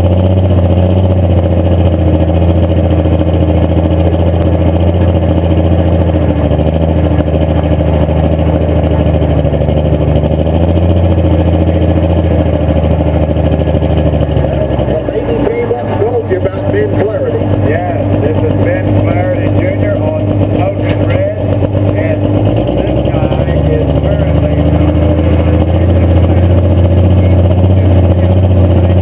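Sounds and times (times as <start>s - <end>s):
tractor engine running loud: 0.0s - 29.0s.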